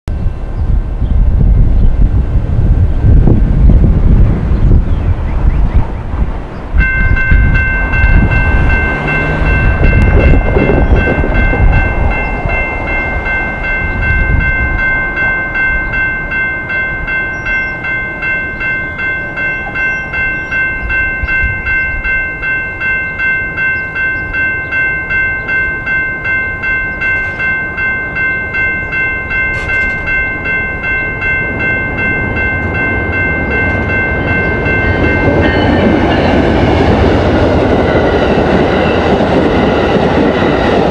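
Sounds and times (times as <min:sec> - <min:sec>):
wind rumbling on microphone: 0:00.1 - 0:40.9
railroad crossing bell ringing: 0:06.4 - 0:40.9.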